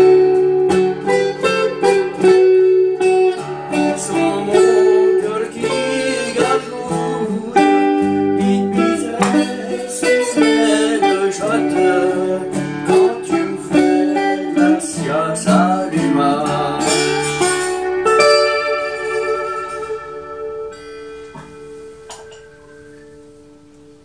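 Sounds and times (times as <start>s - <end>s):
acoustic blues guitar: 0.0s - 24.0s.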